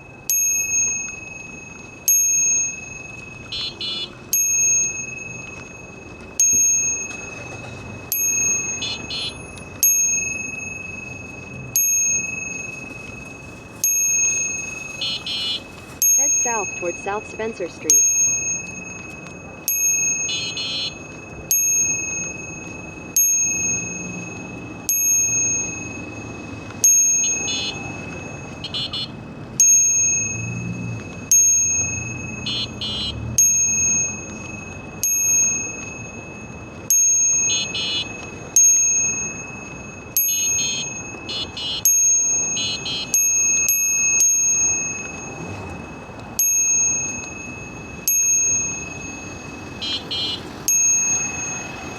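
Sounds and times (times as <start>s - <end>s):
bicycle bell dinging: 0.0s - 51.9s.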